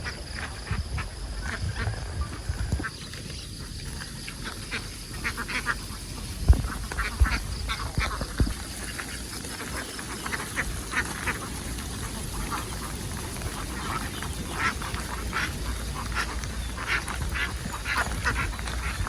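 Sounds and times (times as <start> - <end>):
ducks quacking: 0.0 - 19.0
low steady rumble: 0.0 - 19.0.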